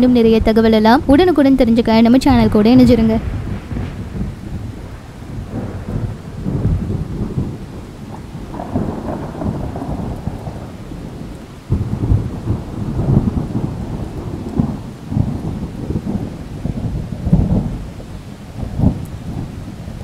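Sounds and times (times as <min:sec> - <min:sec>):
heavy rain: 0:00.0 - 0:20.0
wind buffeting the microphone: 0:00.0 - 0:20.0
wind gusting through trees: 0:00.0 - 0:20.0.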